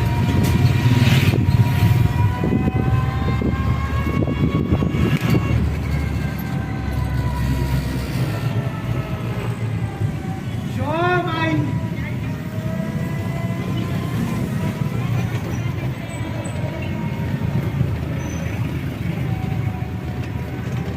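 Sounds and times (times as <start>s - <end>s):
faint vehicle whine: 0.0s - 20.9s
vehicle engine rumble: 0.0s - 20.9s.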